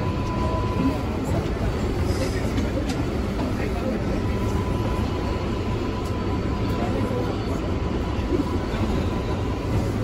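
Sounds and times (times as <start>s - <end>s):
subway train rumbling at platform: 0.0s - 10.0s.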